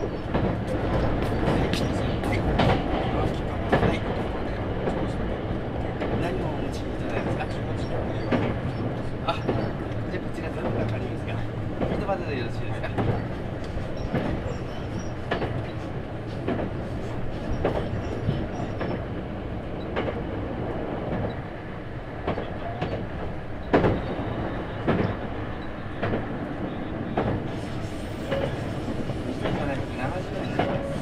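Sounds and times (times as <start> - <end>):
train running rumble: 0.0 - 31.0.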